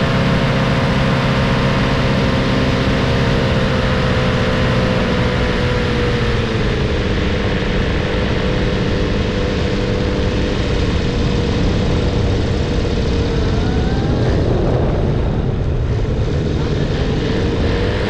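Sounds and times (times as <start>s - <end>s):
paramotor engine drone: 0.0s - 18.0s
wind noise on microphone: 0.0s - 18.0s.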